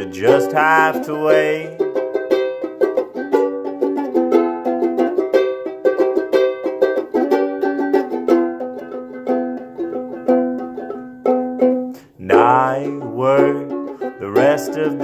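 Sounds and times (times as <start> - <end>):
ukulele strumming: 0.0 - 15.0.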